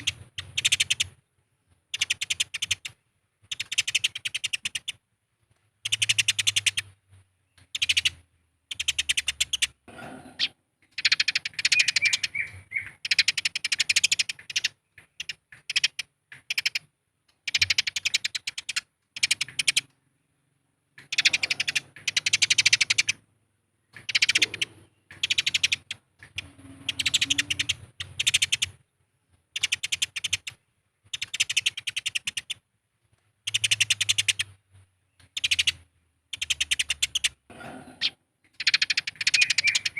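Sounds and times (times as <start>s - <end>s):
sparrows chattering: 0.0s - 5.0s, 5.8s - 32.6s, 33.4s - 39.9s.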